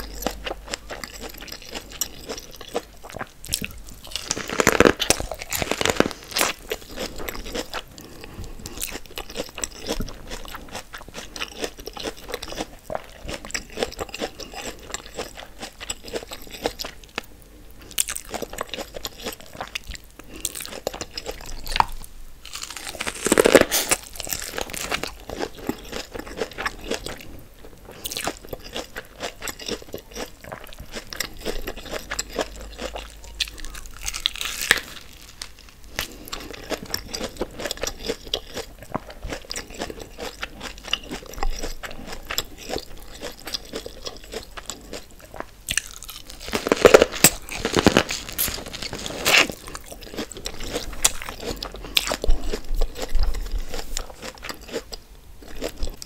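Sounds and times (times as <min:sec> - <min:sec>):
chewing corn on the cob: 0:00.0 - 0:56.0.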